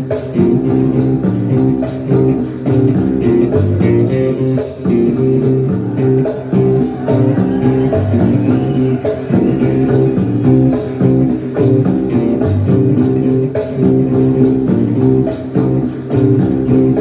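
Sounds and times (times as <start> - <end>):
electric guitar bluesy groove: 0.0 - 17.0.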